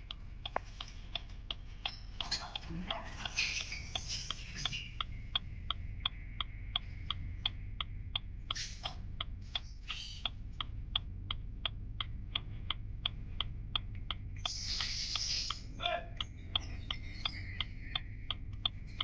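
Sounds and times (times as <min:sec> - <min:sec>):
low steady hum: 0:00.0 - 0:19.0
rhythmic ticking clicks: 0:00.0 - 0:19.0.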